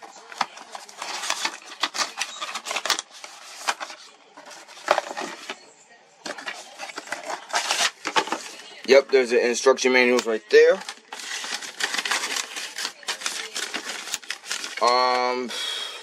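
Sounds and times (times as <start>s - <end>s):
packaging crinkling and clicking: 0.0s - 5.6s, 6.2s - 8.6s, 10.0s - 15.2s.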